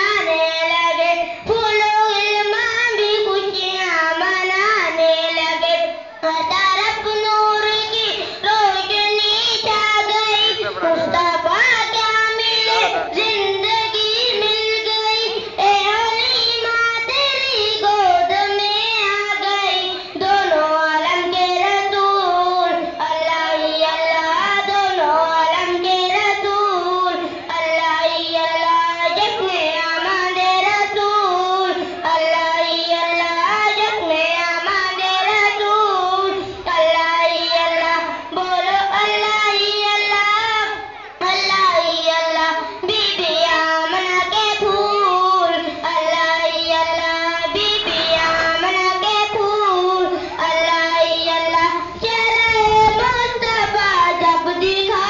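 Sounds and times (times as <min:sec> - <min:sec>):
boy singing into a microphone: 0:00.0 - 0:55.0.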